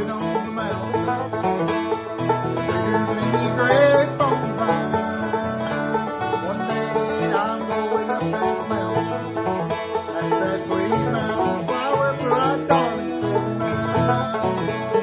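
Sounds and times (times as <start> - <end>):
banjo picking: 0.0 - 15.0
guitar accompaniment: 0.0 - 15.0.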